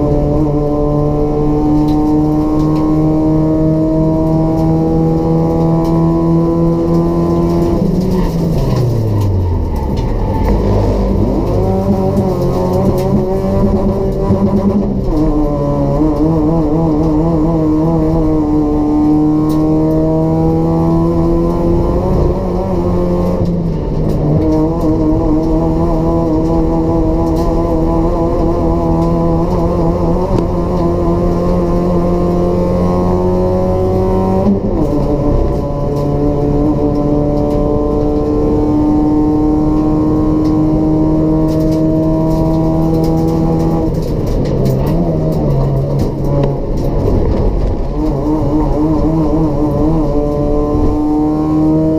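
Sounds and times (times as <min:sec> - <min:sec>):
car engine running hard: 0:00.0 - 0:51.9.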